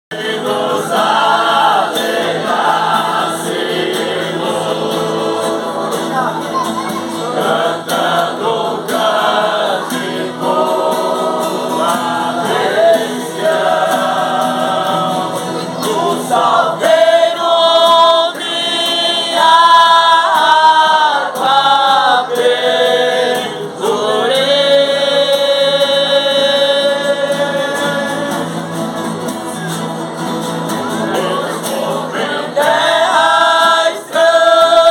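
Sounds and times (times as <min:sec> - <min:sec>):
gospel-style singing: 0:00.1 - 0:34.9
musical accompaniment: 0:00.1 - 0:34.9.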